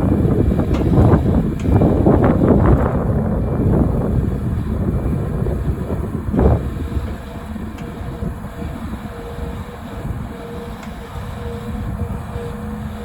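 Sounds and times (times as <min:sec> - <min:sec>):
excavator engine rumbling: 0:00.0 - 0:13.0
steady whine: 0:00.0 - 0:13.0.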